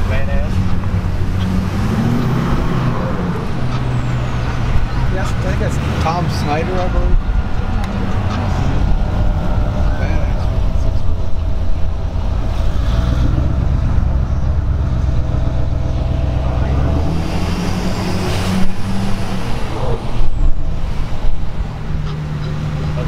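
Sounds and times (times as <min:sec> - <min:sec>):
road noise: 0:00.0 - 0:23.0
truck engine driving slowly: 0:00.0 - 0:23.0.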